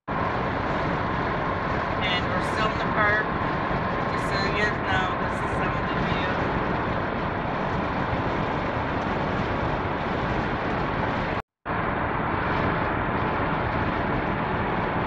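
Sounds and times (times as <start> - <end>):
van interior road noise: 0.0 - 15.0.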